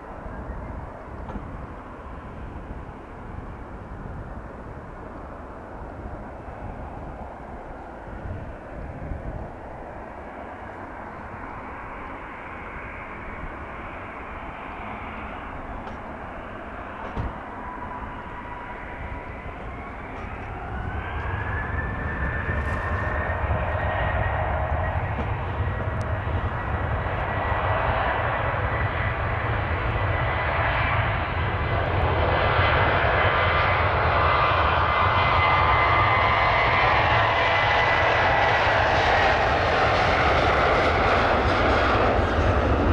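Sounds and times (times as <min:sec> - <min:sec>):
jet engines spooling up: 0:04.8 - 0:42.9.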